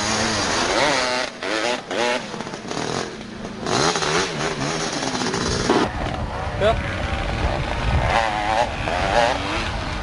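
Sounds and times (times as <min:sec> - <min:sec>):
quad engine revving hard: 0:00.0 - 0:10.0.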